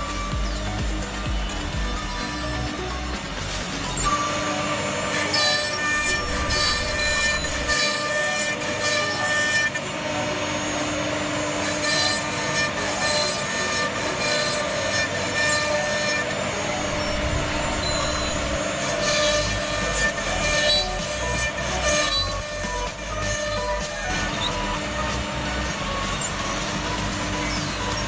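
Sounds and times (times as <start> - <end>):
bits rasping through wood: 0.0 - 28.0
router spindles whining: 0.0 - 28.0.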